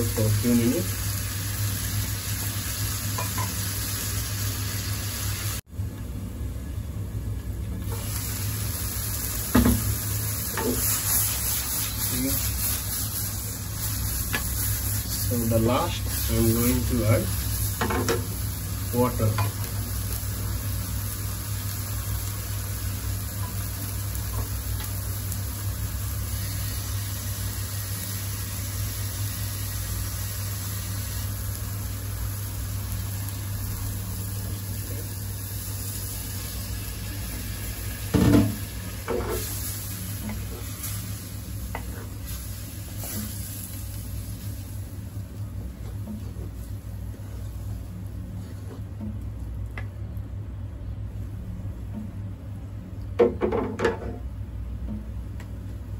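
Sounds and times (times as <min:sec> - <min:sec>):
curry sizzling in a pan: 0:00.0 - 0:05.7, 0:07.8 - 0:48.8
steady low hum: 0:05.4 - 0:55.9.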